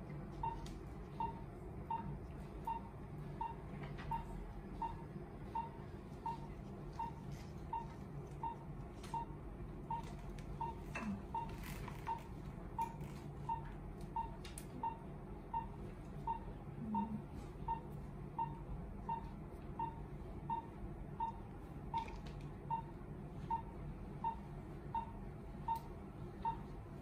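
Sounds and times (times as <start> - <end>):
patient monitor beeping: 0.3 - 27.0.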